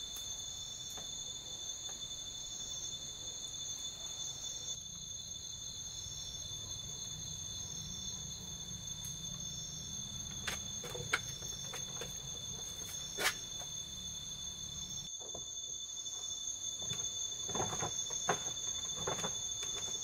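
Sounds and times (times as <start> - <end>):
night insects chirring: 0.0 - 20.0.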